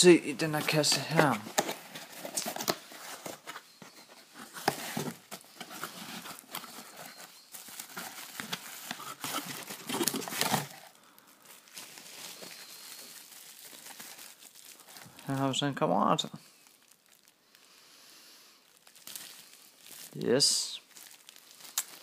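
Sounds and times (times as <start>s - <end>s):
bubble wrap crinkling against cardboard: 0.4s - 17.8s, 18.6s - 22.0s.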